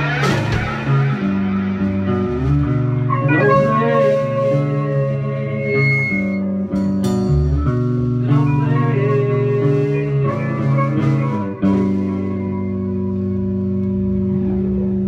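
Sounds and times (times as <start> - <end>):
drum kit: 0.0 - 14.8
electric bass: 0.0 - 15.0
electric guitar: 0.0 - 15.0.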